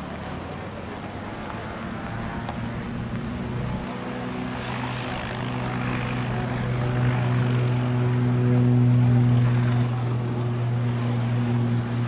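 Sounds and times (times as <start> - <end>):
propeller airplane engine drone: 0.0 - 12.0.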